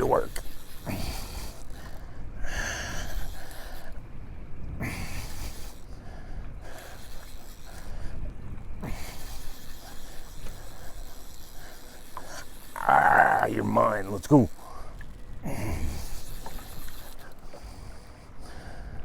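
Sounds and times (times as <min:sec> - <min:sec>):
water noise: 0:00.0 - 0:19.0.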